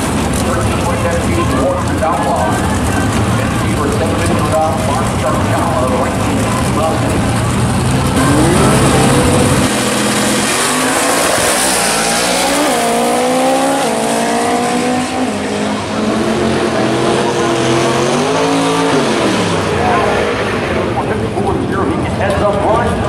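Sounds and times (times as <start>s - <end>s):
drag car engines revving: 0.0s - 23.0s.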